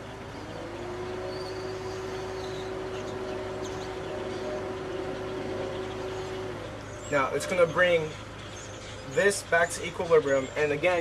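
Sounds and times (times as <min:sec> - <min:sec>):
steady droning hum: 0:00.0 - 0:11.0.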